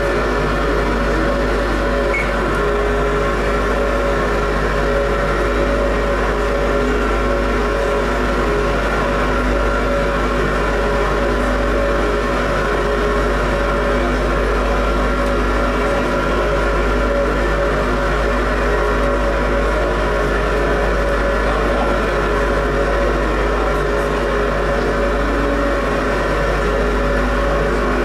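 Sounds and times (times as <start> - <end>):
droning tones: 0.0 - 28.0.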